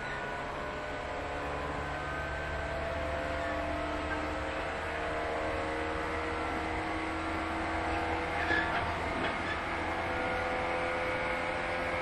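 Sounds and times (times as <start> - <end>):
traction motors whining: 0.0 - 10.7
wheels rumbling on rail: 0.0 - 12.0.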